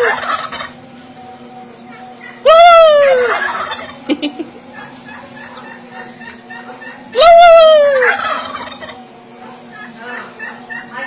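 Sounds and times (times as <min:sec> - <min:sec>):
turkeys gobbling: 0:00.0 - 0:01.0, 0:01.6 - 0:11.0.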